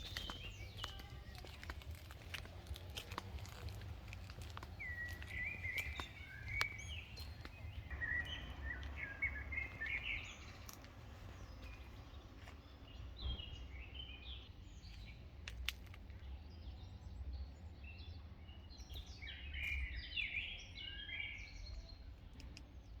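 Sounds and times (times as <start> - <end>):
low outdoor rumble: 0.0 - 20.0
songbirds chirping: 0.0 - 23.0.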